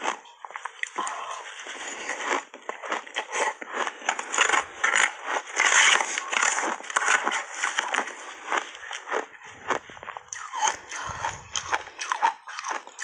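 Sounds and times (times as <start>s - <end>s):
crunching ice being chewed: 0.0s - 13.0s.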